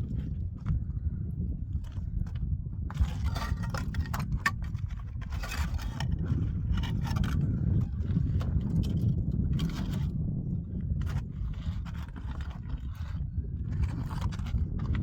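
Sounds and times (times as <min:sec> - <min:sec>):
steady low rumble: 0:00.0 - 0:15.0
rough scraping against a surface: 0:01.8 - 0:15.0.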